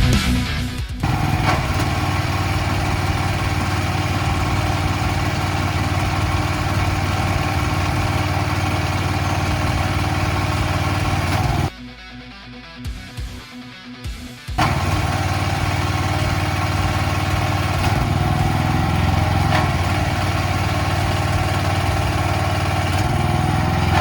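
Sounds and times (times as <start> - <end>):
pressure washer engine running: 1.0 - 11.7, 14.6 - 24.0.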